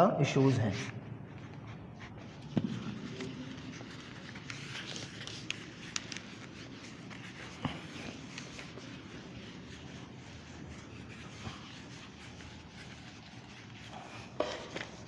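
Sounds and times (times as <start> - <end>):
eraser scratching on whiteboard: 1.5 - 15.0.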